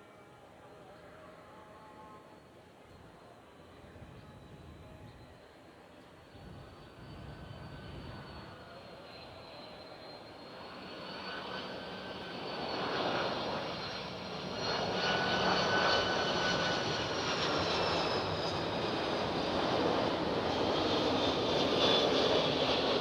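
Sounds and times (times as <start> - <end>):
airplane engines: 2.4 - 23.0.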